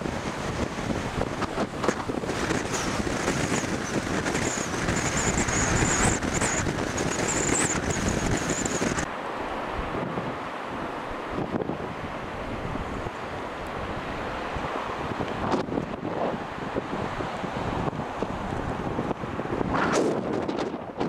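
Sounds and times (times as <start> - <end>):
wind buffeting microphone: 0.0 - 9.1, 11.3 - 21.0
surf breaking on shore: 0.0 - 21.0.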